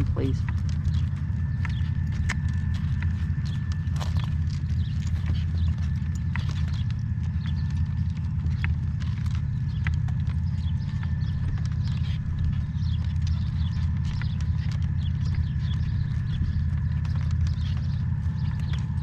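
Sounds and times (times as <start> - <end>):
horse hooves walking: 0.0 - 19.0
steady low hum: 0.0 - 19.0.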